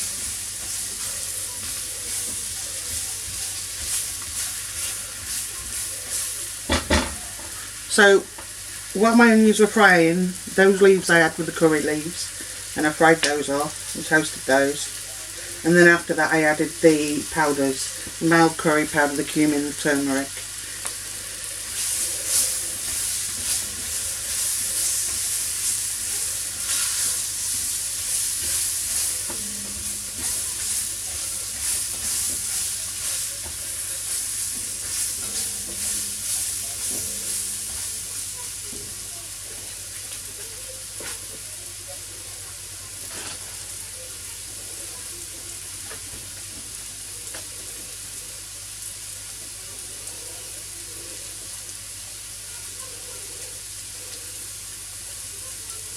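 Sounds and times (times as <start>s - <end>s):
vegetables sizzling in a pot: 0.0s - 55.9s.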